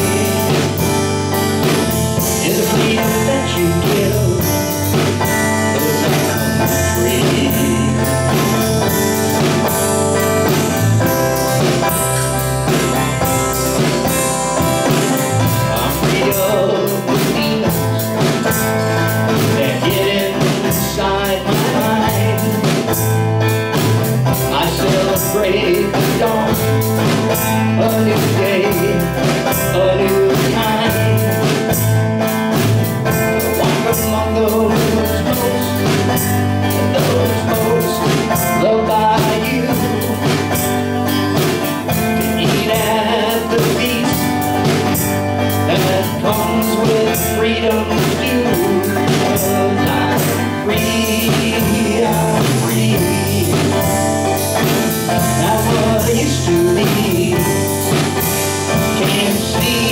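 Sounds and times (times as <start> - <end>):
acoustic guitar strumming: 0.0 - 59.9
bowed double bass: 0.0 - 59.9
drum kit beat: 0.0 - 59.9
man singing: 0.0 - 59.9.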